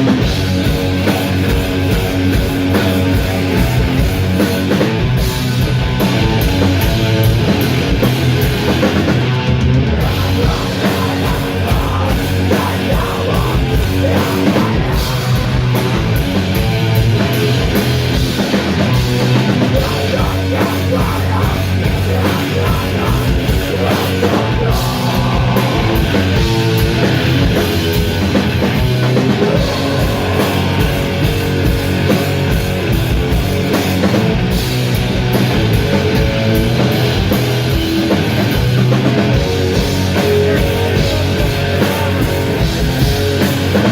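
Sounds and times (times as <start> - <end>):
metal band playing live: 0.0 - 43.9.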